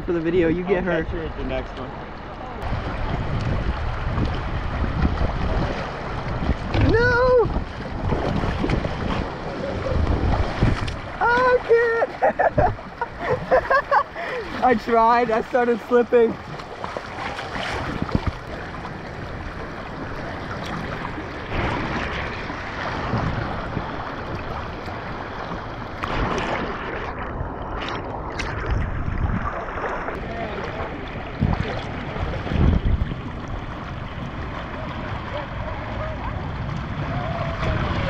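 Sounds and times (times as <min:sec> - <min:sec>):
river water splashing and rushing: 0:00.0 - 0:38.0
wind buffeting microphone: 0:00.0 - 0:38.0.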